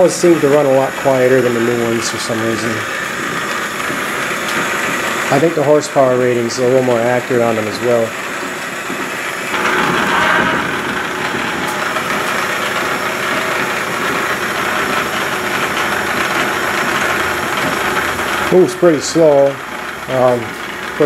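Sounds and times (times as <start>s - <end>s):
lathe motor whirring: 0.0s - 21.0s.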